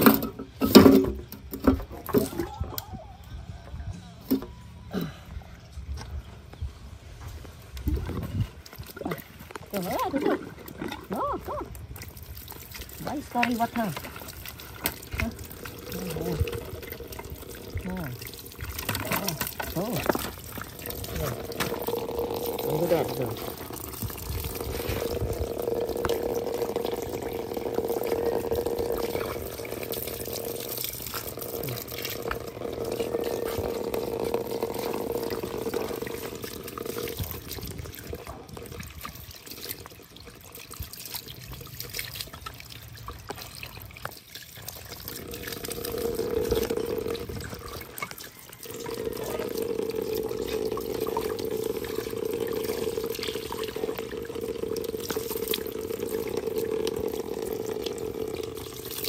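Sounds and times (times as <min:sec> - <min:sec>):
water running from a hose: 0:07.6 - 0:59.0.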